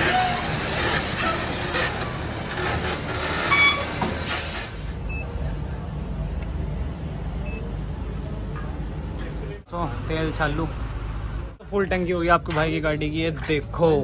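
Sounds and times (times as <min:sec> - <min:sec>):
diesel vehicle idling: 0:00.0 - 0:12.4.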